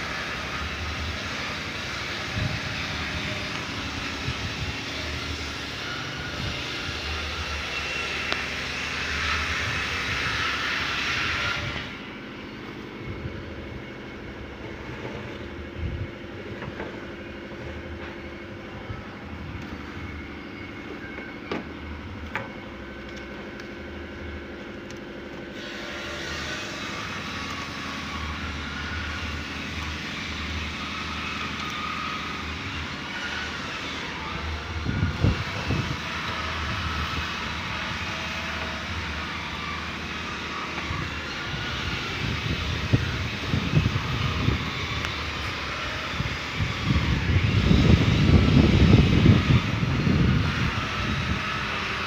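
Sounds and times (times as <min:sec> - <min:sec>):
engine drone: 0:00.0 - 0:52.0.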